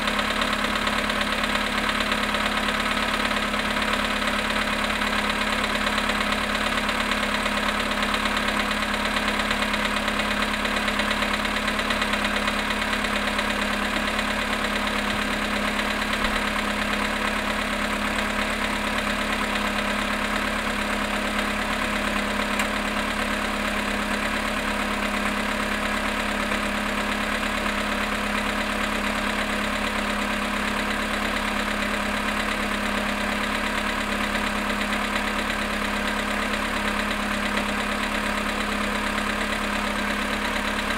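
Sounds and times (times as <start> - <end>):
car engine idling: 0.0 - 40.9
cold engine knocking: 0.0 - 40.9.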